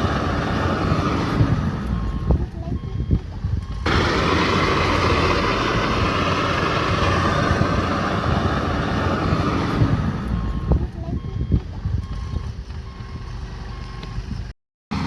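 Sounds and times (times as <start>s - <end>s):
combine harvester engine hum: 0.0s - 15.0s.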